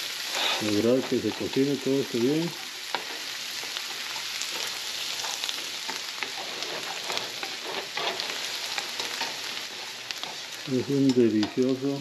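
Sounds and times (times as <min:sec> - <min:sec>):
vegetables sizzling in butter: 0:00.0 - 0:12.0
spatula scraping and tapping pan: 0:00.3 - 0:11.8.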